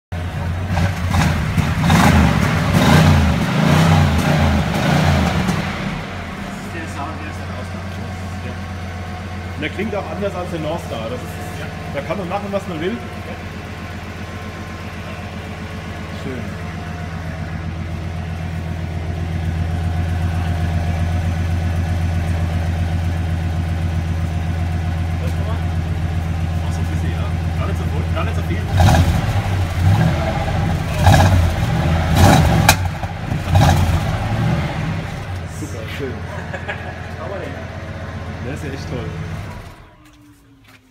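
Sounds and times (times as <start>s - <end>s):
car engine exhaust revving: 0.2s - 40.0s.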